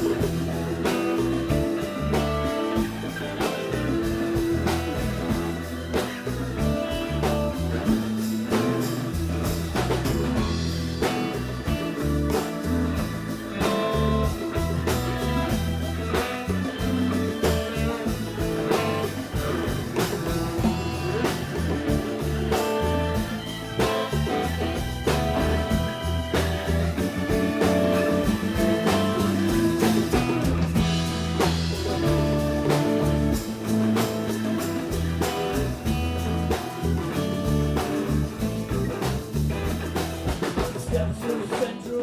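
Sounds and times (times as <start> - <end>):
lead guitar solo: 0.0 - 40.7
bass guitar: 0.0 - 42.0
drums: 0.0 - 42.0.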